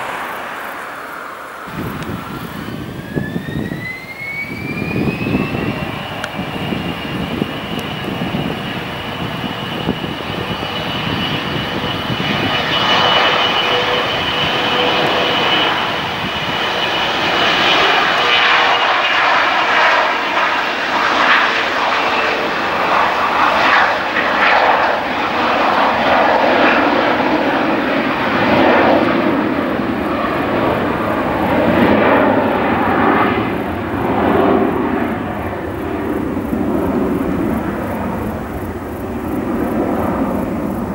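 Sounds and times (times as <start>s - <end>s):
jet taking off roar: 0.0s - 40.9s
jet turbine whine: 0.0s - 40.9s.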